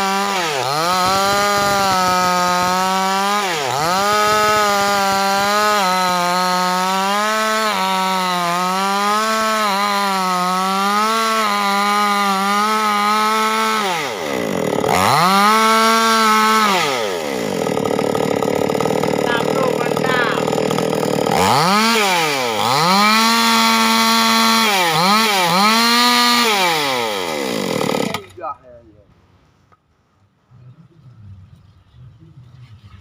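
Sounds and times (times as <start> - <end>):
chainsaw cutting through wood: 0.0 - 28.6.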